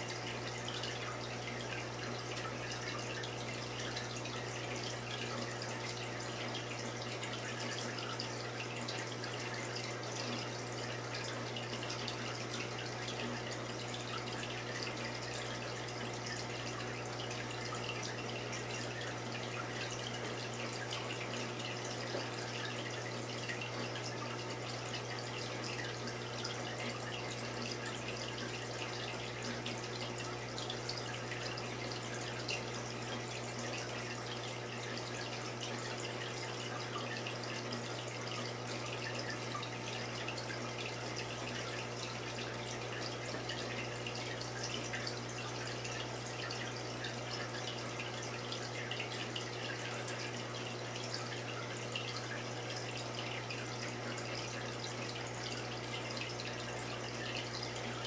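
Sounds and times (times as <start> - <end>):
aquarium water trickling and bubbling: 0.0 - 58.0.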